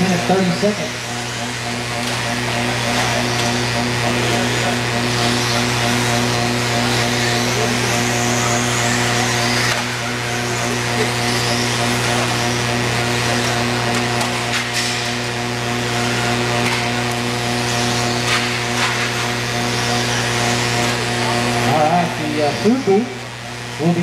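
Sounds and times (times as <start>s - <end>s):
electric motors whining: 0.0s - 24.0s
steady low hum: 0.0s - 24.0s.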